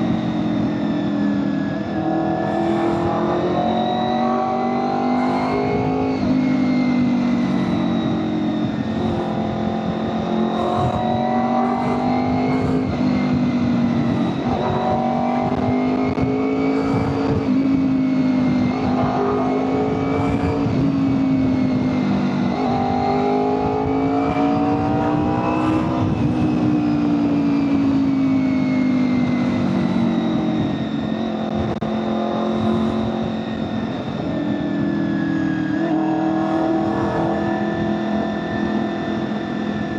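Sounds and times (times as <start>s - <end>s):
motorcycle engine revving: 0.0s - 39.9s
wind buffeting microphone: 4.6s - 39.9s.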